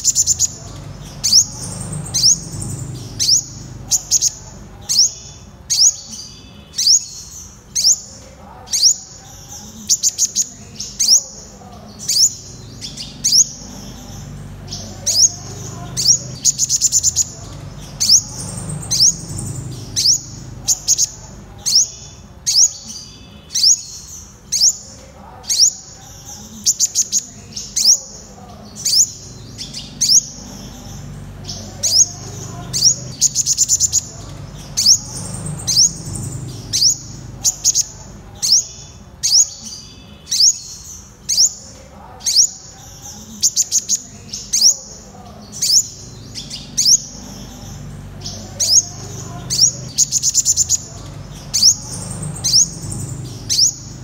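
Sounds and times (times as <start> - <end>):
sunbird calling: 0.0 - 8.2, 8.8 - 24.9, 25.5 - 41.7, 42.3 - 54.0.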